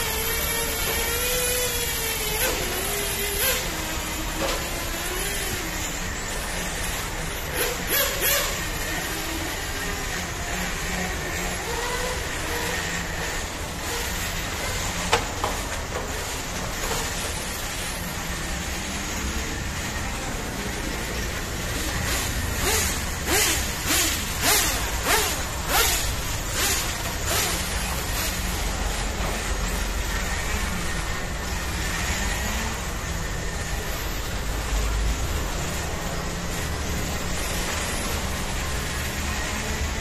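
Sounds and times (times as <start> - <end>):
rc cars whooshing past: 0.0 - 40.0.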